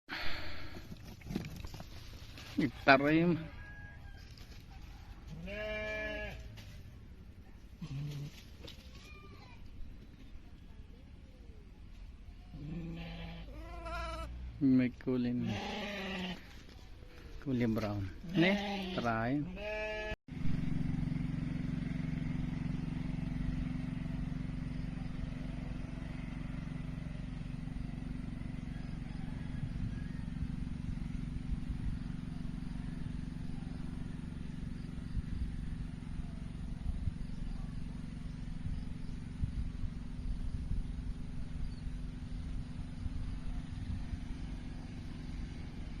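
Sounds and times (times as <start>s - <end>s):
engine humming steadily: 0.1s - 46.0s.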